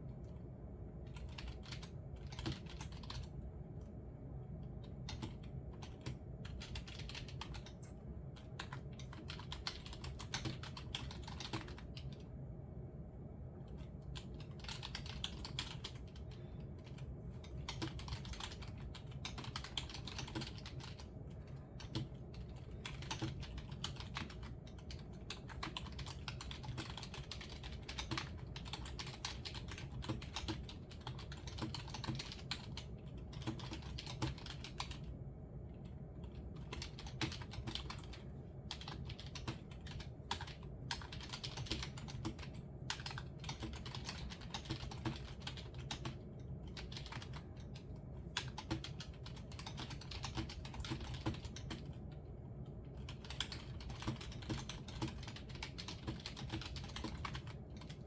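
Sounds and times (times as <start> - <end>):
faint low hum: 0.0 - 58.0
typing on computer keyboard: 1.0 - 3.4, 4.6 - 12.3, 13.7 - 35.2, 35.8 - 58.0.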